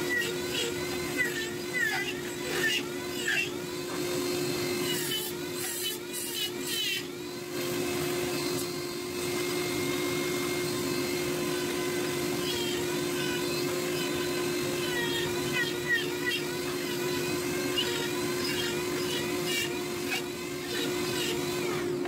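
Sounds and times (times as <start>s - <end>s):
rotary tool whining: 0.0s - 22.0s.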